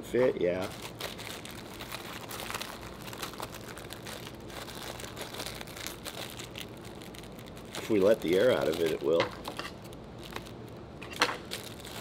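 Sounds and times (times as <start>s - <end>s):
plastic wrapper crinkling: 0.5s - 12.0s.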